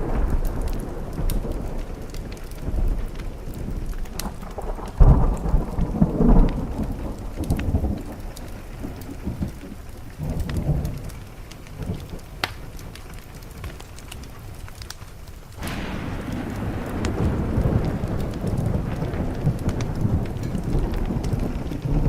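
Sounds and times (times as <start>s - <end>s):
thunder rumbling: 0.0s - 14.5s, 15.5s - 22.0s
steady rain: 0.0s - 22.0s.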